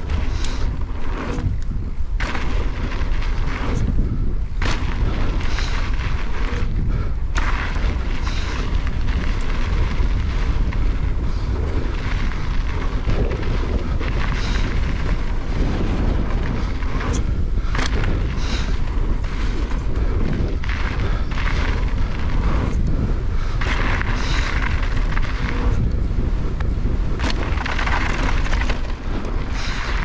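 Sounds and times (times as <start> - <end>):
bike clicks and rattles: 0.0 - 30.0
mountain bike rumbling over dirt: 0.0 - 30.0
wind buffeting microphone: 0.0 - 30.0.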